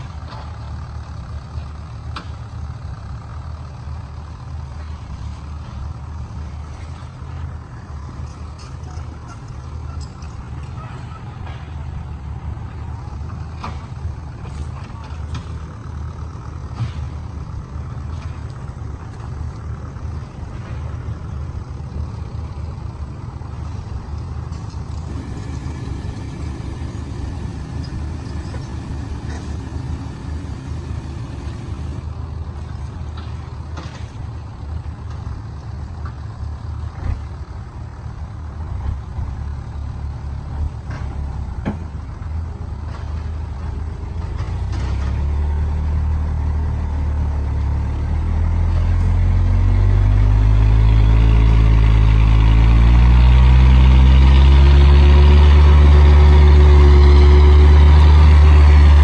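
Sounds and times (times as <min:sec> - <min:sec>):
truck engine rumbling: 0:00.0 - 0:59.0.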